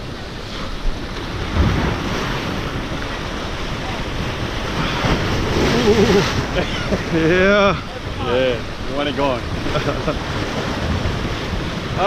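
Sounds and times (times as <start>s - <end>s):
ocean surf breaking over rocks: 0.0s - 12.0s
wind buffeting microphone: 0.0s - 12.0s.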